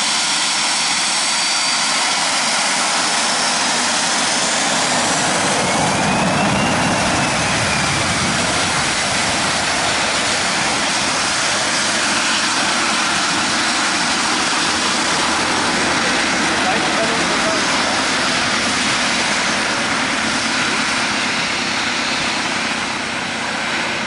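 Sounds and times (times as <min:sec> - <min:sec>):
faint jet engine whine: 0:00.0 - 0:24.0
jet engines rushing hiss: 0:00.0 - 0:24.0.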